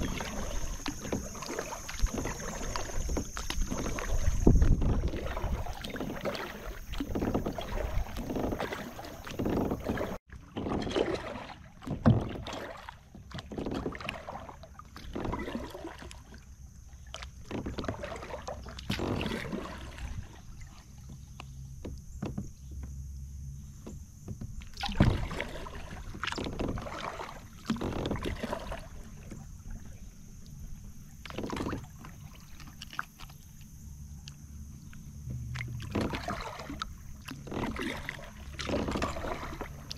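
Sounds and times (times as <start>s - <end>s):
paddle strokes splashing in water: 0.0s - 39.9s.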